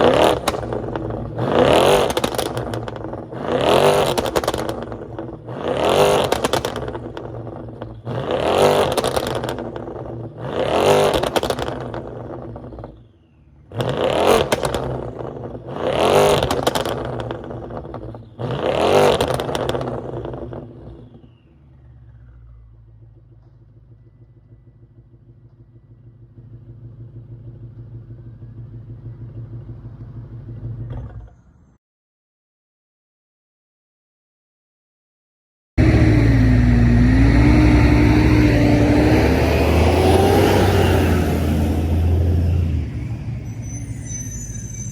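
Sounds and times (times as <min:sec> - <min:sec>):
car engine revving and idling: 0:00.0 - 0:31.7, 0:35.8 - 0:43.6.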